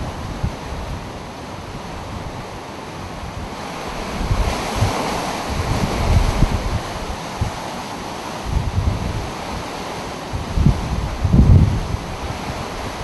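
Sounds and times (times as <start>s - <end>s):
driving rain: 0.0s - 13.0s
strong winds blowing: 0.0s - 13.0s
wind buffeting microphone: 0.0s - 13.0s.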